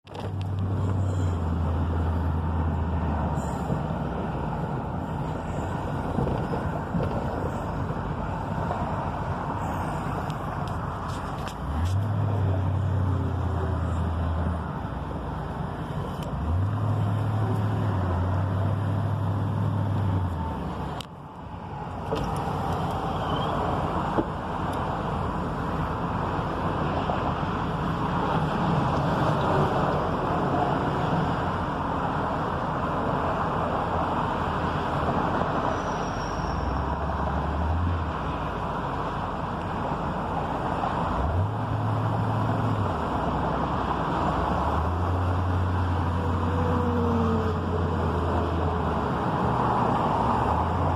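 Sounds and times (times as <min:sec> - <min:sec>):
road traffic noise: 0:00.0 - 0:50.9.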